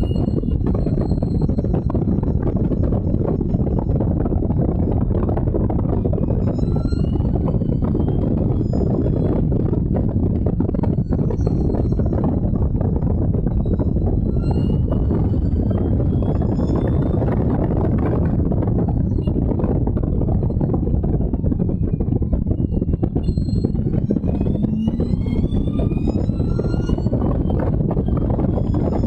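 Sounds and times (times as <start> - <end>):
faint rising whine: 0.0 - 29.0
race car engine running hard: 0.0 - 29.0.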